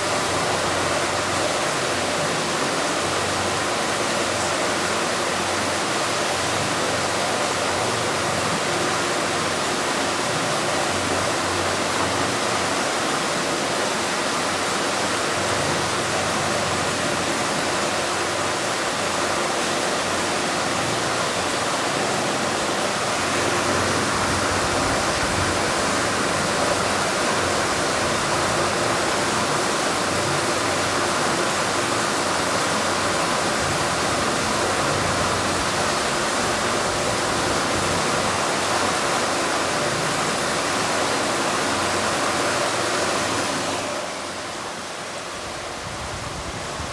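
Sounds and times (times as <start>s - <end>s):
sea surf roaring: 8.0s - 46.9s.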